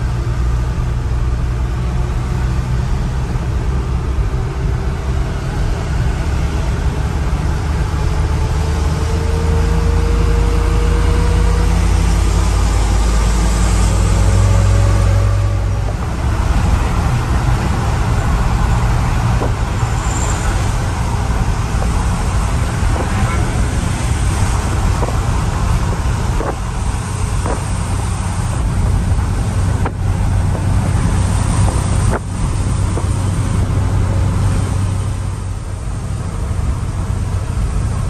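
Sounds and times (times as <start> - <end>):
road noise: 0.0 - 38.0
truck engine droning: 0.0 - 38.0.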